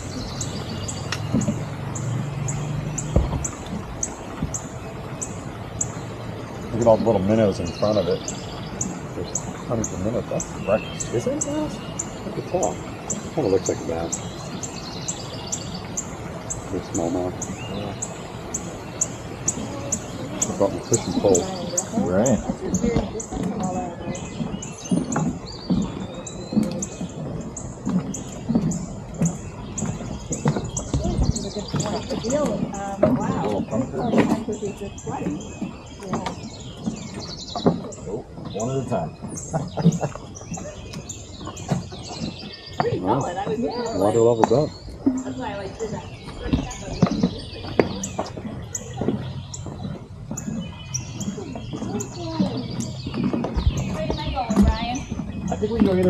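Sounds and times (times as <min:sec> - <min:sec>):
bird chirping: 0:00.0 - 0:56.0
footsteps on a trail: 0:06.9 - 0:56.0.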